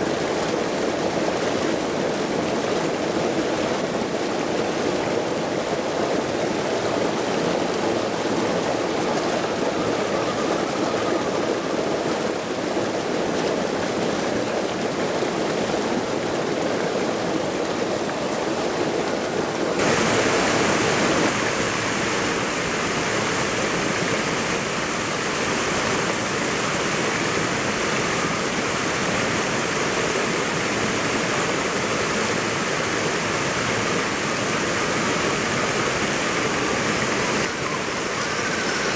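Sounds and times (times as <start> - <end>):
river rushing over rock: 0.0 - 38.9
small waterfall pouring: 0.0 - 38.9.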